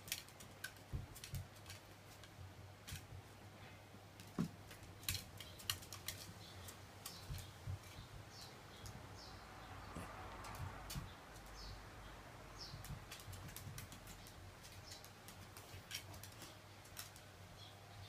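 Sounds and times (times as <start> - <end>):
pet claws clicking and tapping: 0.0 - 3.2, 4.2 - 9.0, 9.8 - 11.8, 12.6 - 17.4.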